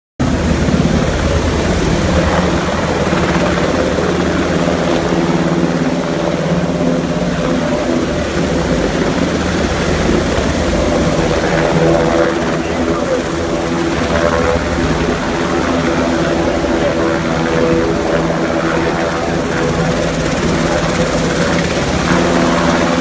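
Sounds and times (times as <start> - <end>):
helicopter engines and rotors: 0.2 - 23.0.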